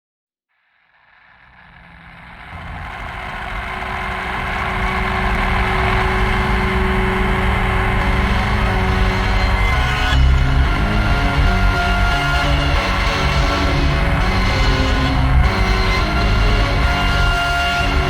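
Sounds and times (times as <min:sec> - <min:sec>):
droning noise rock music: 0:01.2 - 0:18.0.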